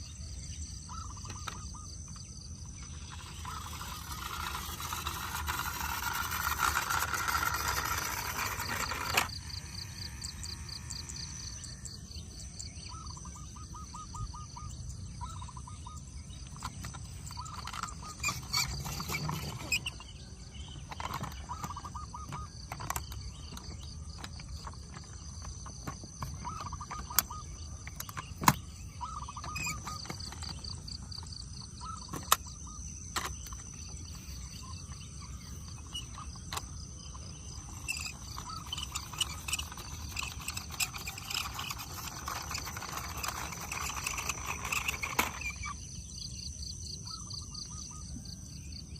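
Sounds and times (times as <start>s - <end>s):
high-pitched insect drone: 0.8s - 20.2s, 20.8s - 48.9s
rapid chirps: 0.8s - 48.1s.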